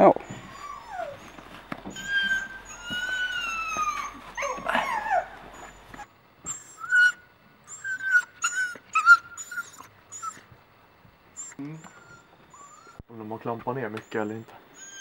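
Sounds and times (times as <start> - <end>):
dog whining: 0.2 - 10.5, 11.4 - 13.1, 14.7 - 15.0
dog yipping and whimpering: 0.4 - 10.5, 11.4 - 13.1, 14.7 - 15.0.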